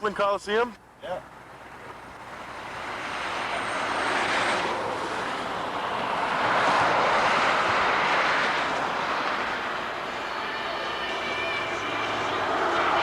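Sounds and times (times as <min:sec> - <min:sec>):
vehicle rushing past: 0:02.2 - 0:13.0.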